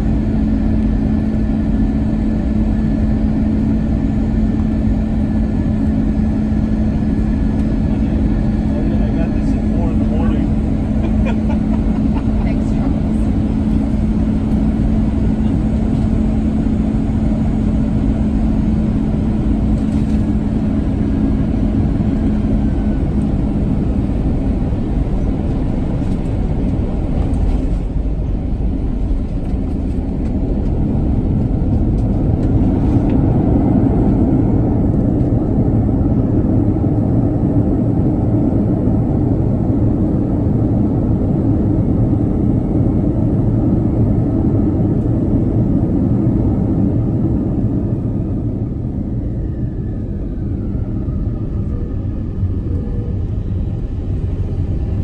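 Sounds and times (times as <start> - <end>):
engine and airflow rumble: 0.0 - 55.0
plane touchdown and runway roll: 0.0 - 55.0
steady hum: 0.0 - 55.0.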